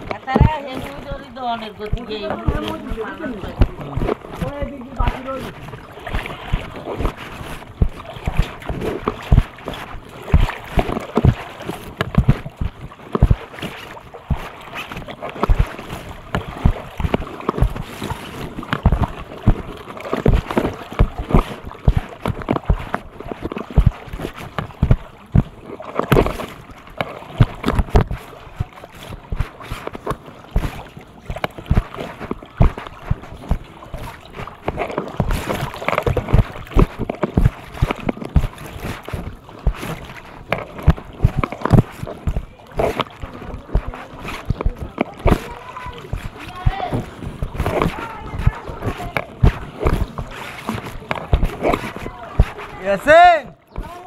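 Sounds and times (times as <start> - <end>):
floodwater sloshing and splashing: 0.0 - 54.0.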